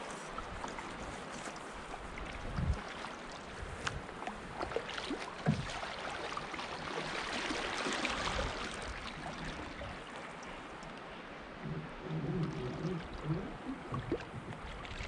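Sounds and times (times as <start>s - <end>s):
brook water rushing: 0.0s - 15.0s
gurgles and splashes: 0.0s - 15.0s.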